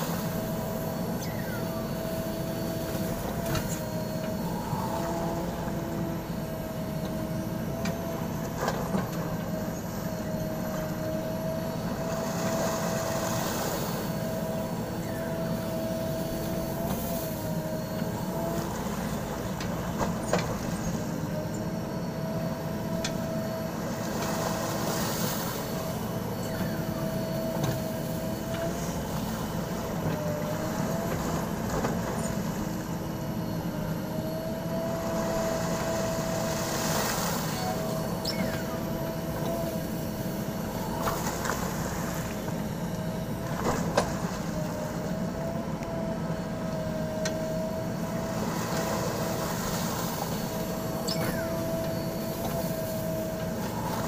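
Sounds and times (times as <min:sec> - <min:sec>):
diesel engine running: 0:00.0 - 0:54.0
machine whine: 0:00.0 - 0:54.0.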